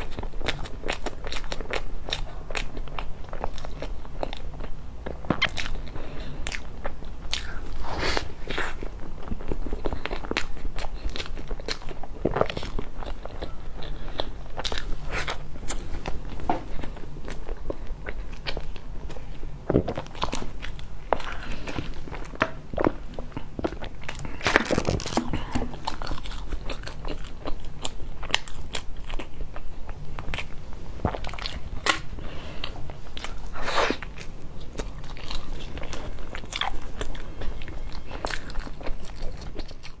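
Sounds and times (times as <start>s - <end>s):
person chewing and biting: 0.0s - 40.0s.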